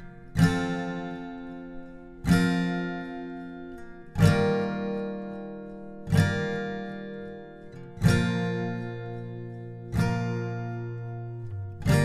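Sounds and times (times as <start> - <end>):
acoustic guitar strumming slow chords: 0.0 - 12.0.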